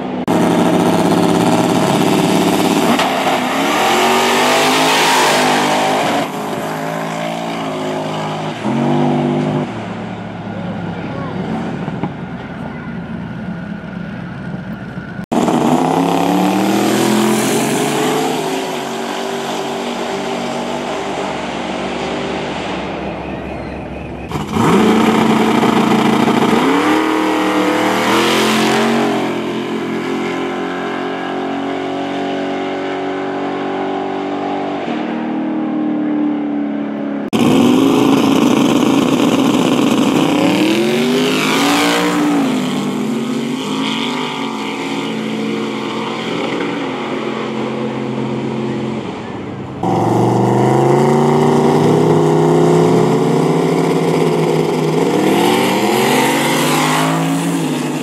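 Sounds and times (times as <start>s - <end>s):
drag race cars accelerating: 0.0s - 13.9s, 15.2s - 58.0s.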